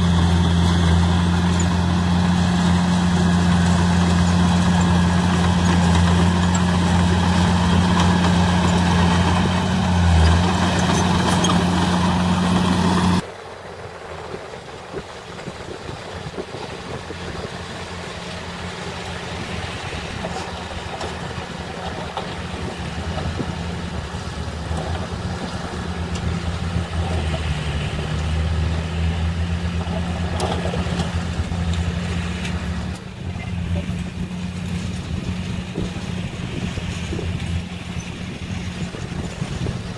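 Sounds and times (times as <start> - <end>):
heavy diesel engine running: 0.0 - 39.9
quieter engine sound: 0.0 - 39.9.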